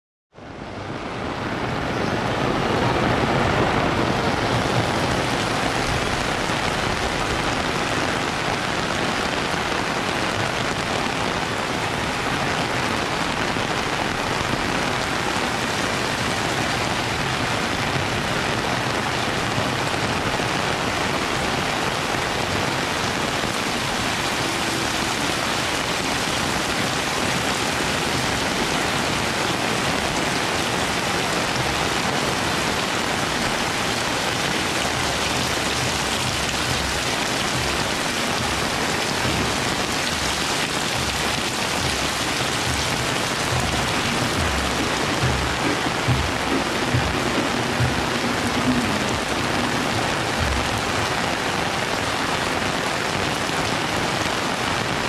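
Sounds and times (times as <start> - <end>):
heavy rain pouring: 0.4 - 55.0.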